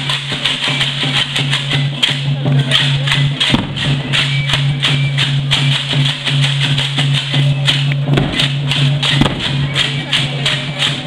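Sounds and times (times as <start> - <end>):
hand drum beat: 0.0 - 11.0.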